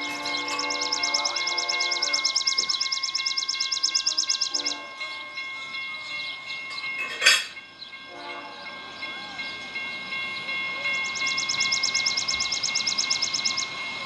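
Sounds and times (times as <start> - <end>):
rapid bell ringing: 0.0 - 14.0
steady ringing tones: 0.0 - 14.0.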